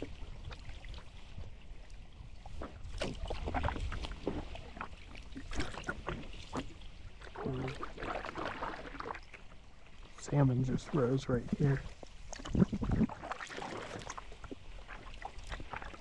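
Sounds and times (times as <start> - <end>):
paddle splashes and drips: 0.0 - 16.0.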